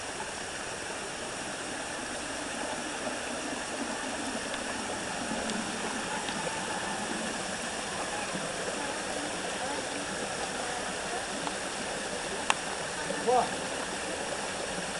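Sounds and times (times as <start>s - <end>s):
water rushing over rocks: 0.0s - 14.9s.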